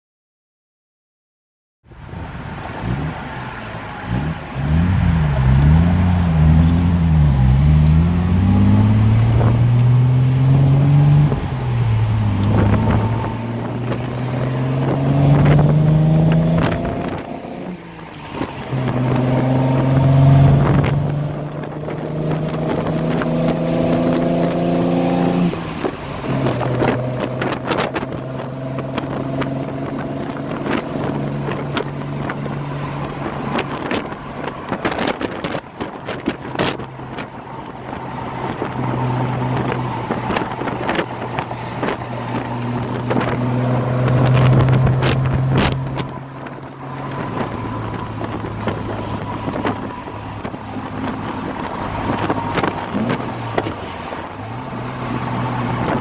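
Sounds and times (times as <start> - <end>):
car engine accelerating through gears: 2.2 - 56.0.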